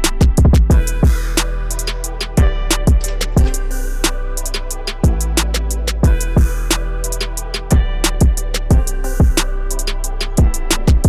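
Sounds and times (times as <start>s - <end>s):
electronic hip-hop beat: 0.0s - 11.0s.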